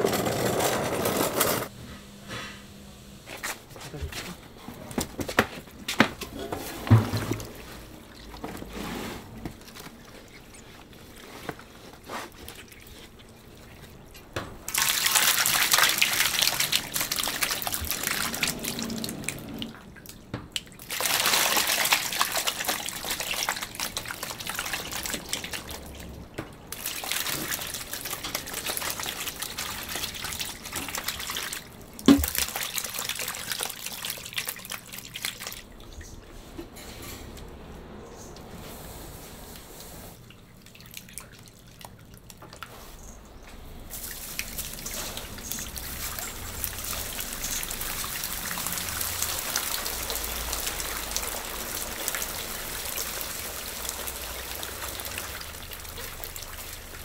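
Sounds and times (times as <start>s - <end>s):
running water: 5.8s - 36.4s, 40.2s - 57.0s.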